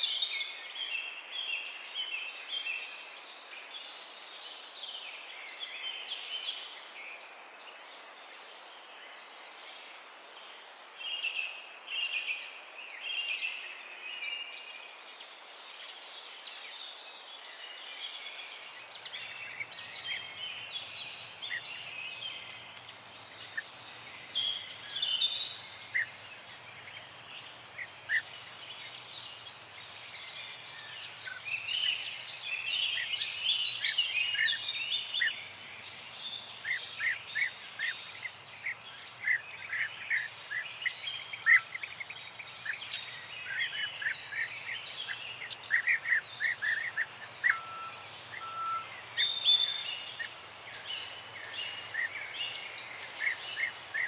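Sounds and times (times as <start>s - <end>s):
birds chirping and singing: 0.0s - 54.0s
steady background hiss: 0.0s - 54.0s.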